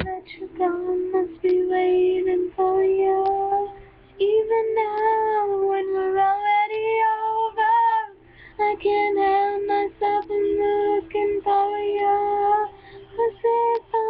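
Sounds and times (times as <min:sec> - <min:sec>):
girl singing unaccompanied: 0:00.0 - 0:14.0.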